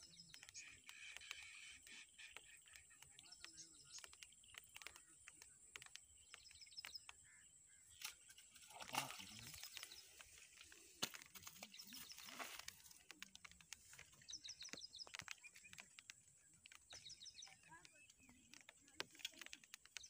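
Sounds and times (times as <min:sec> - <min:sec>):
birds chirping: 0:00.0 - 0:20.0
small clicks: 0:00.0 - 0:20.0.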